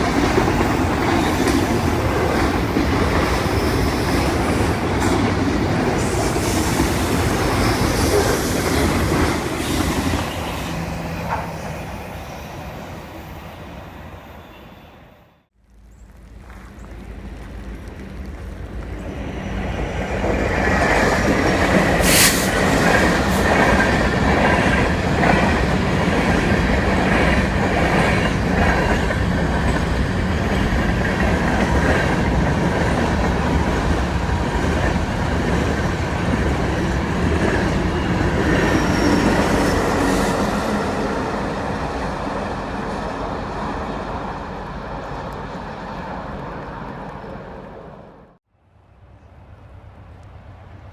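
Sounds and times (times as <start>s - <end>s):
freight train passing: 0.0s - 50.9s.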